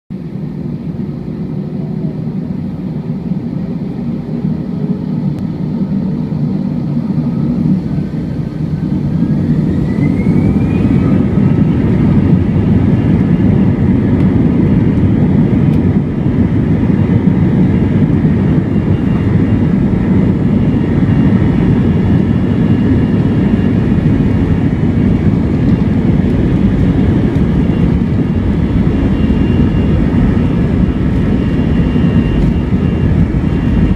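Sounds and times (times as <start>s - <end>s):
jet engines spooling up: 0.2s - 33.9s.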